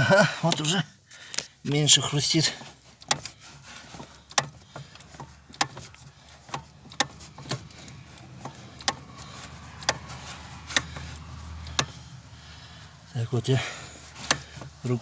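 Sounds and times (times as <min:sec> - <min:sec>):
clutch pedal clicking: 0:00.0 - 0:01.5, 0:02.2 - 0:13.0, 0:13.6 - 0:15.0.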